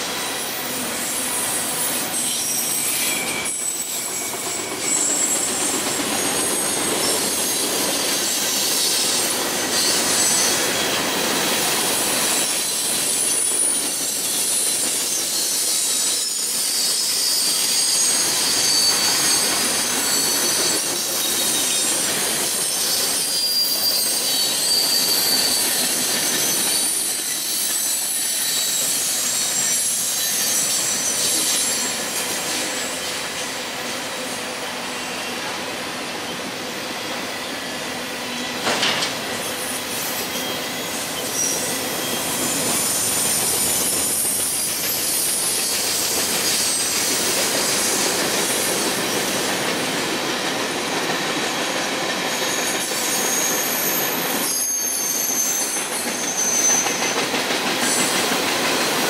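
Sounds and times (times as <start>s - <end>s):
freight train wheels on track: 0.0s - 59.0s
high-pitched wheel squeals: 0.3s - 11.1s, 12.2s - 33.5s, 39.4s - 49.2s, 52.2s - 59.0s.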